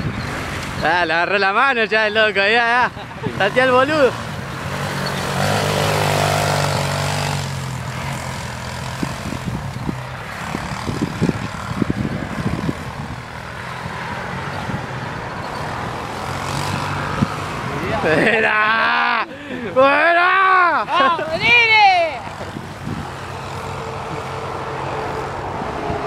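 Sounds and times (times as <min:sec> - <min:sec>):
small quad bike engine: 0:00.0 - 0:26.0.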